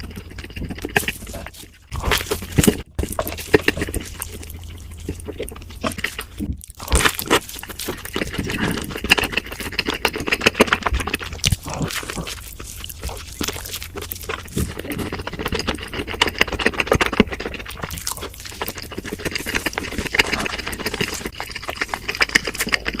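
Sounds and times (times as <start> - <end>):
crunching and chewing crispy food: 0.0 - 23.0.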